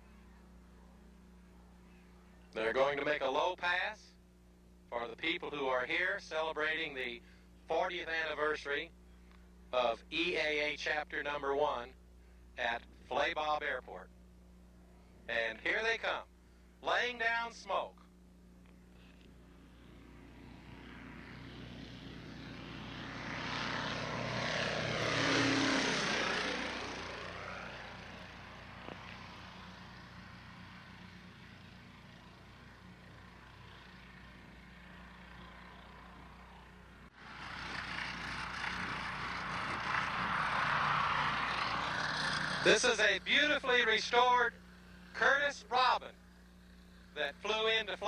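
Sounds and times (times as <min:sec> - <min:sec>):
propeller aircraft engine: 0:00.0 - 0:13.3, 0:14.0 - 0:48.0
propeller planes passing low: 0:00.0 - 0:48.0.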